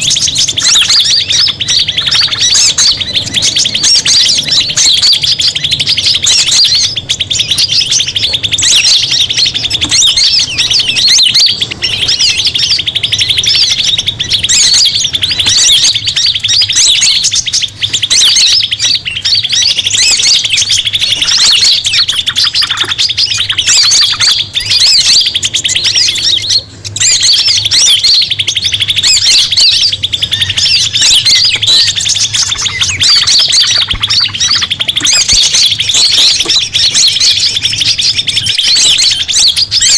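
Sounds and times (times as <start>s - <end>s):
birds chirping loudly: 0.0s - 39.9s.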